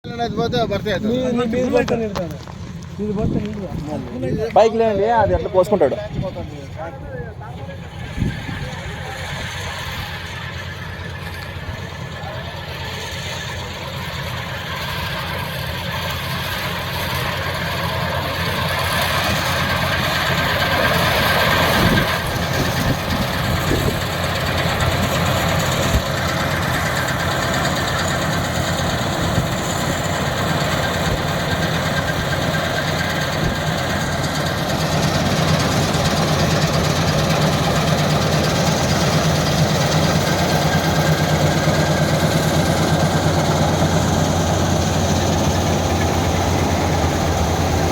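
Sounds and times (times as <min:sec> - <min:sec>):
combine harvester engine running: 0:00.0 - 0:47.9.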